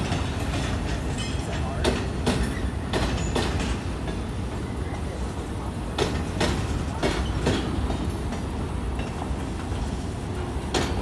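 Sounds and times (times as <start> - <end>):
low train rumble: 0.0 - 11.0
train wheels clacking over rail joints: 0.0 - 11.0.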